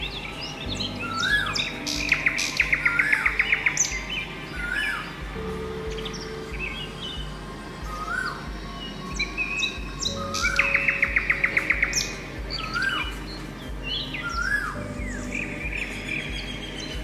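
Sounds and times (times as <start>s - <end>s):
music with slow pulsing beat: 0.0s - 17.0s
songbirds chirping: 0.0s - 17.0s.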